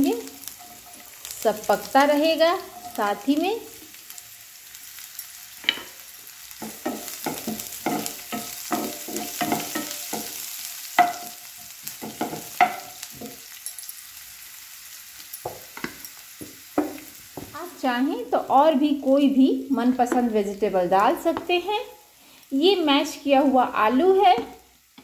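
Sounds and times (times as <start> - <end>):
oil sizzling: 0.0 - 25.0.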